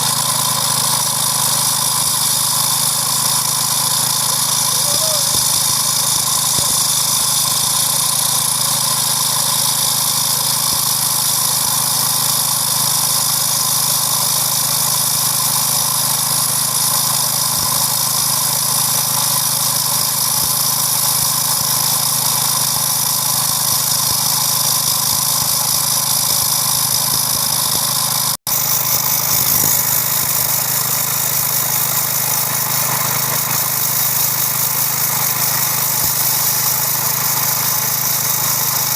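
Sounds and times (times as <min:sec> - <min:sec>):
core drill engine running: 0:00.0 - 0:38.9.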